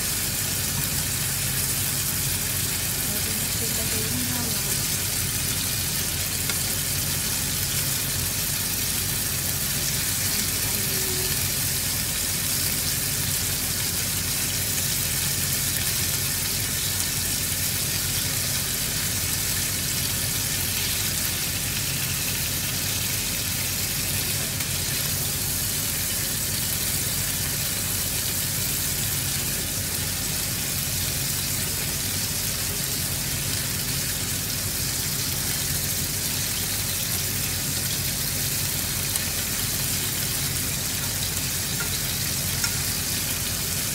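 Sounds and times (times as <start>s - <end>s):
meat sizzling in a frying pan: 0.0s - 43.9s.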